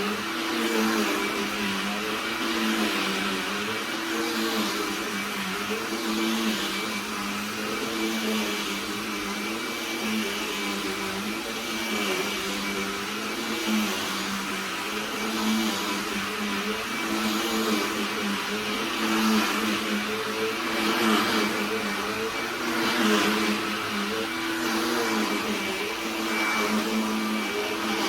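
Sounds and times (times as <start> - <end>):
handheld vacuum cleaner running: 0.0 - 28.0.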